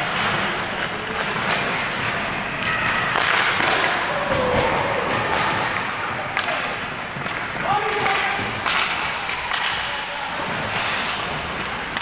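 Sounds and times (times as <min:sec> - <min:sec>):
skates scraping ice: 0:00.0 - 0:12.0
stick hitting puck: 0:00.8 - 0:12.0.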